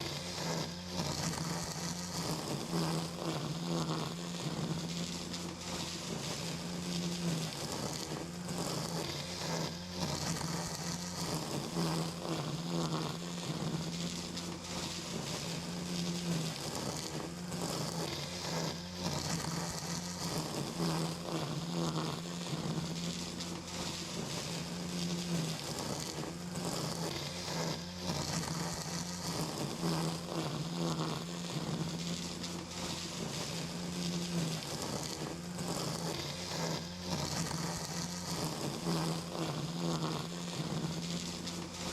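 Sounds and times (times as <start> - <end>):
small electric motor buzzing: 0.0 - 41.9.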